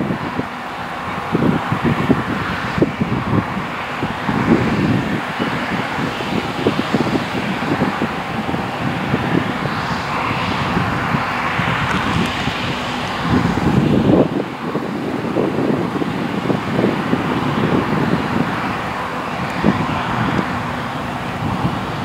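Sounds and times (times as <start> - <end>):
combine harvester running: 0.0 - 22.0
wind buffeting microphone: 0.0 - 22.0.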